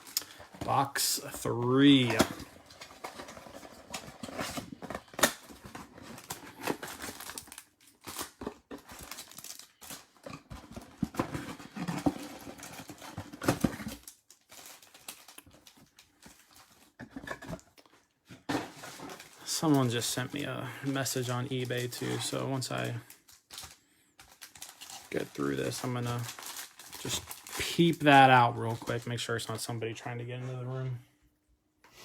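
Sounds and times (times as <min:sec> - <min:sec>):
packaging crinkling and tearing: 0:00.0 - 0:29.7.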